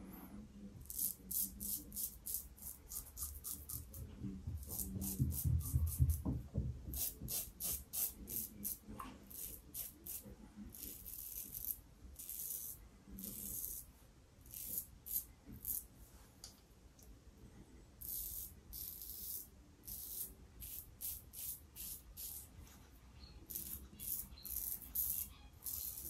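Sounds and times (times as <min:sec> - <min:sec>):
razor scraping stubble: 0:00.8 - 0:06.2, 0:06.9 - 0:15.9, 0:18.0 - 0:22.5, 0:23.4 - 0:26.0.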